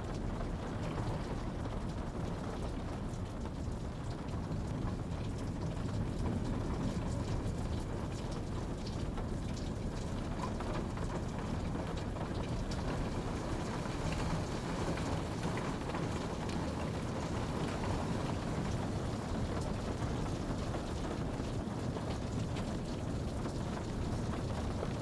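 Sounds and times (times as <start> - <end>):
steady rain falling: 0.0 - 25.0
raindrop ticks: 0.1 - 25.0.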